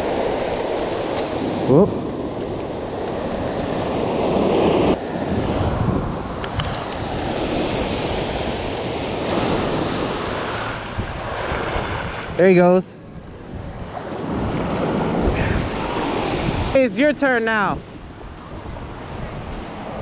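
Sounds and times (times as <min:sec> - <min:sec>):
ocean surf washing on beach: 0:00.0 - 0:20.0
wind buffeting microphone: 0:00.0 - 0:20.0.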